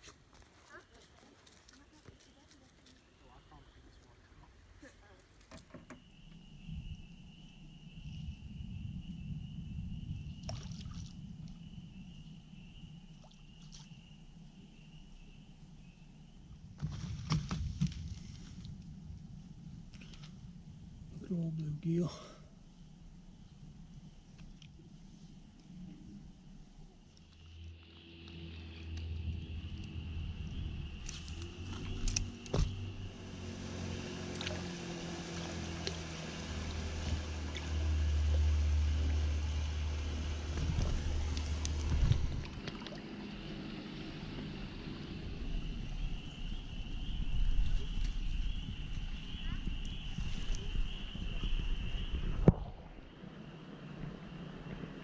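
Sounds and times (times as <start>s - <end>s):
high insect drone: 4.8s - 16.8s, 18.5s - 55.0s.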